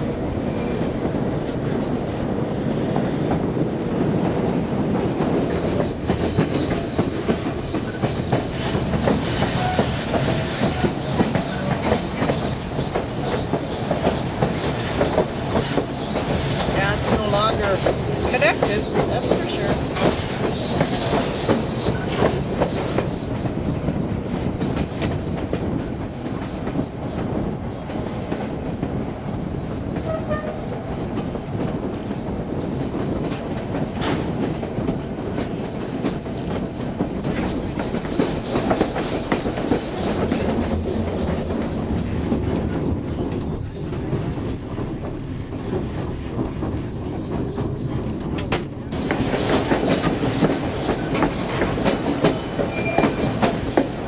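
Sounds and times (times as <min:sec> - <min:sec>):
train rumble: 0:00.0 - 0:54.0
train wheels clattering over rails: 0:00.0 - 0:54.0.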